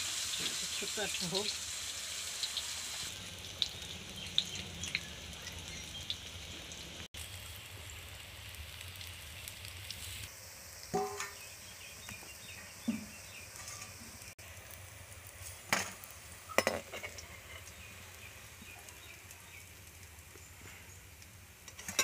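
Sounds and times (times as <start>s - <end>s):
deep-frying sizzle: 0.0s - 22.0s.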